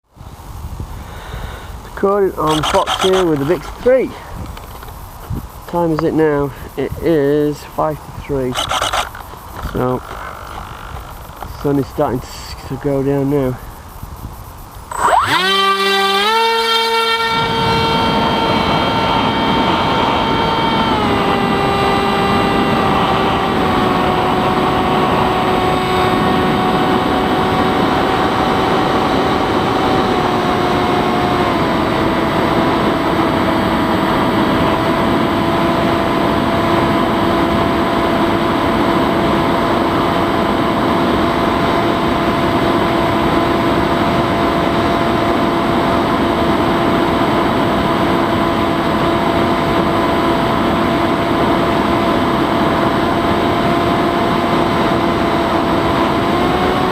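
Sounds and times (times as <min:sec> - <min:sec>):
wind rush: 0:00.1 - 0:15.0, 0:17.0 - 0:56.9
electric motor and propeller whirring: 0:00.2 - 0:56.9.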